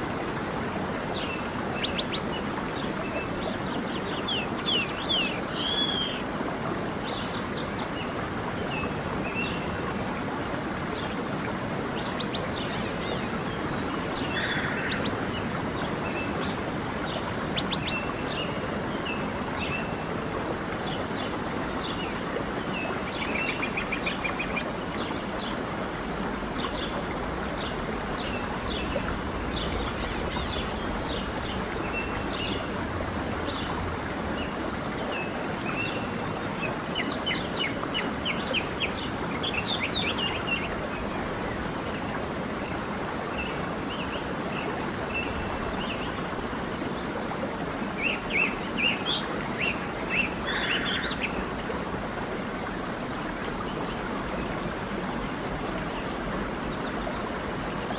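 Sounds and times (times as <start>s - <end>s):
stream rushing: 0.0s - 57.9s.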